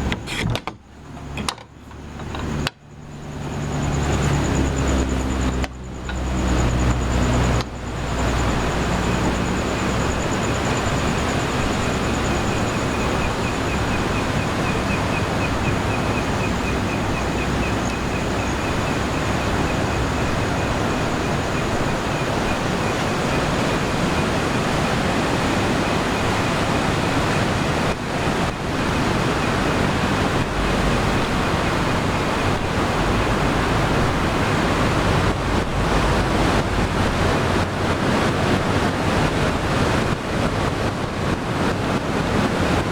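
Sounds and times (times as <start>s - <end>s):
insects buzzing and trilling: 0.0s - 40.0s
sea waves on the shore: 0.0s - 42.9s.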